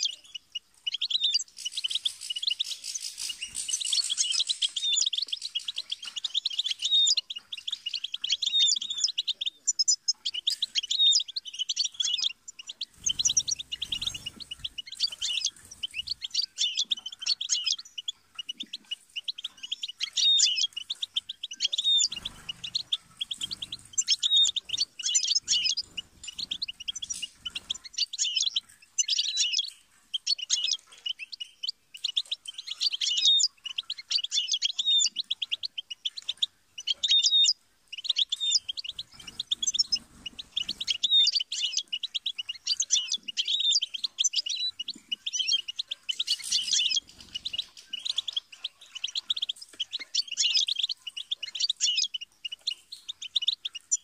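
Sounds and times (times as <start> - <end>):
finch singing twitter: 0.0 - 54.0.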